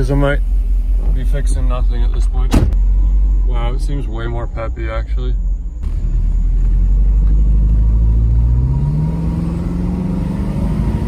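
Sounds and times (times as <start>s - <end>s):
car engine accelerating: 0.8s - 11.0s.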